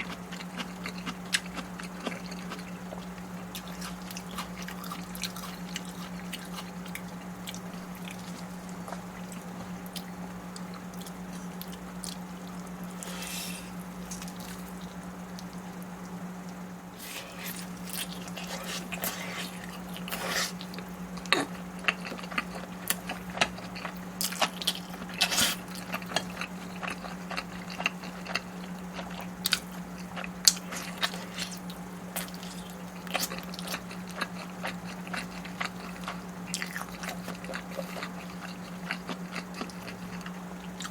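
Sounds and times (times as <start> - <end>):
biting and chewing food: 0.0 - 40.9.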